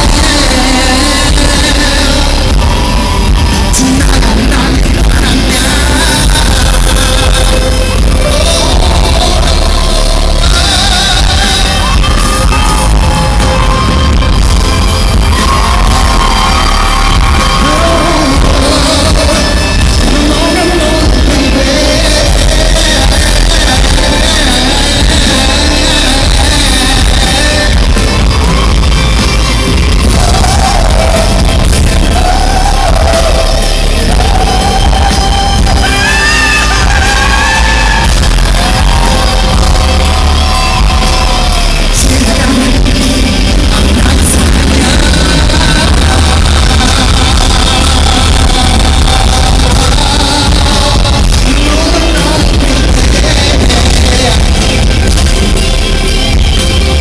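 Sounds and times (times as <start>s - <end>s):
amplified pop music with bass: 0.0s - 57.0s
man singing into microphone: 0.0s - 57.0s.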